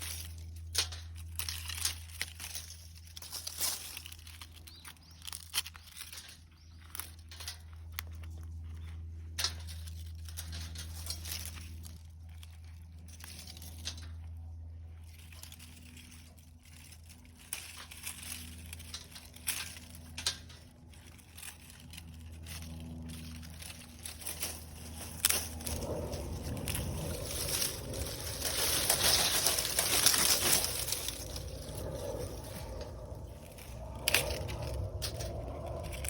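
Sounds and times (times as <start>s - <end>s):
rustling: 0.0s - 36.0s
steady low hum: 0.0s - 36.0s.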